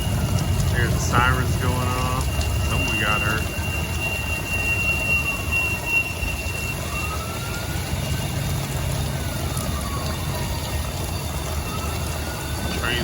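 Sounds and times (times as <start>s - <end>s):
emergency siren wailing: 0.0s - 13.0s
high steady squeal: 0.0s - 13.0s
steady rain: 0.0s - 13.0s.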